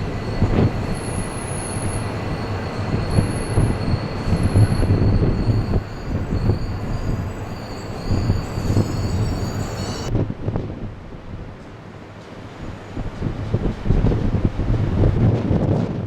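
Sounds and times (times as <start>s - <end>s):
train rumbling: 0.0s - 16.0s
wind buffeting microphone: 0.0s - 16.0s.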